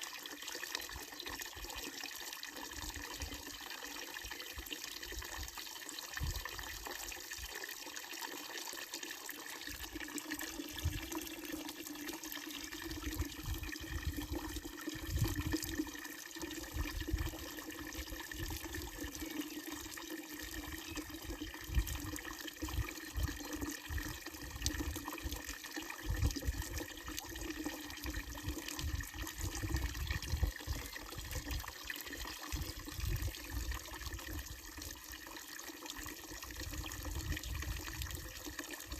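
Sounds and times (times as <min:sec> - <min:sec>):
water pouring into fountain basin: 0:00.0 - 0:38.9.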